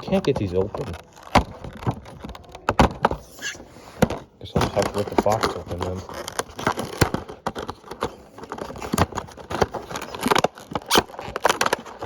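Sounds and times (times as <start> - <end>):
packaging tearing and crackling: 0.0 - 2.7, 4.7 - 12.0.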